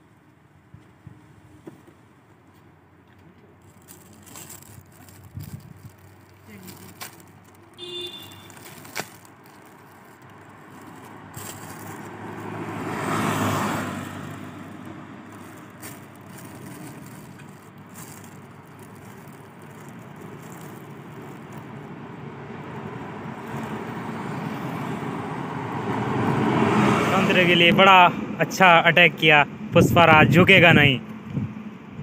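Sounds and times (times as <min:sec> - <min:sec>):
outdoor noise: 0:00.0 - 0:32.0
road vehicle passing by: 0:01.4 - 0:29.8.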